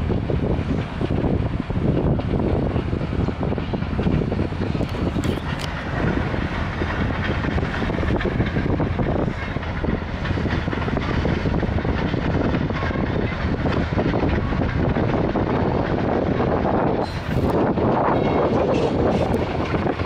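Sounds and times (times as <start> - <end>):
diesel locomotive engine droning: 0.0 - 20.0.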